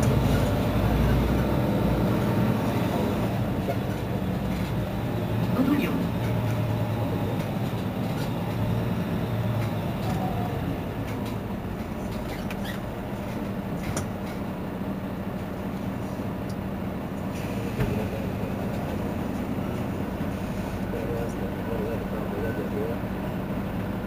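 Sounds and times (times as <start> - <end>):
bus engine idling: 0.0 - 24.0.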